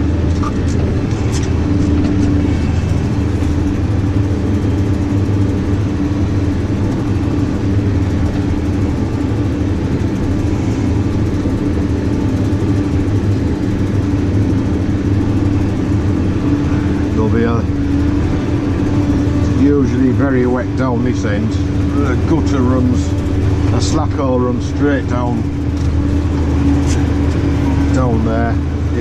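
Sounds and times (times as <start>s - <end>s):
tractor diesel engine droning: 0.0s - 29.0s.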